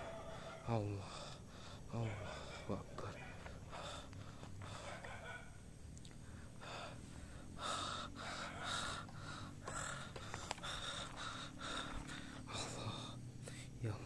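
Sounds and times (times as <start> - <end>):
rapid heavy breathing: 0.0 - 13.9.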